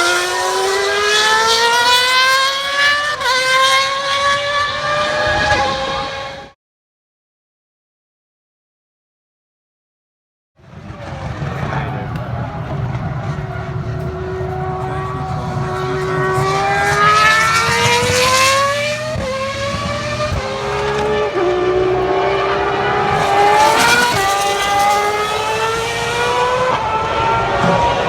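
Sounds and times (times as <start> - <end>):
racing car engine accelerating: 0.0 - 6.6, 10.7 - 28.0.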